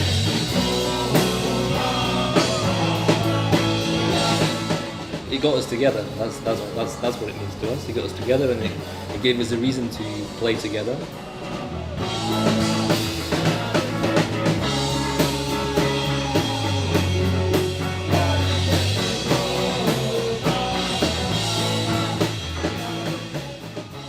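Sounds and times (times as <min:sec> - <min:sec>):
bass line: 0:00.0 - 0:24.0
drum kit steady beat: 0:00.0 - 0:24.0.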